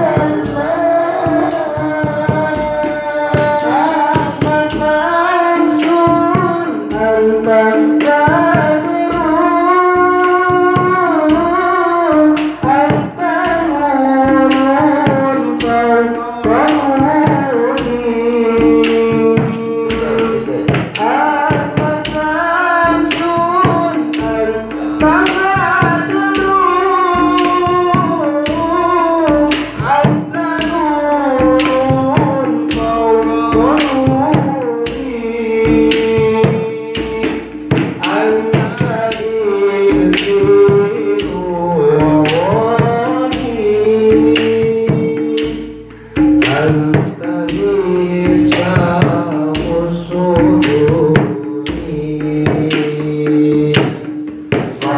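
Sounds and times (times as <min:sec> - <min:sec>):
hand percussion beat: 0:00.0 - 0:54.9
man singing into a microphone: 0:00.0 - 0:54.9.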